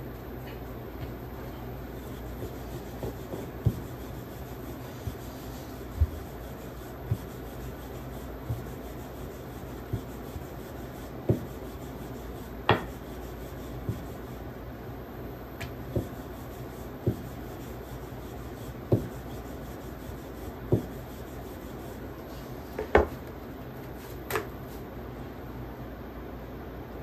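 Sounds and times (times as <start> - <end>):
rolling pin rolling dough: 0.0 - 14.6, 15.6 - 23.3
steady low hum: 0.0 - 27.0.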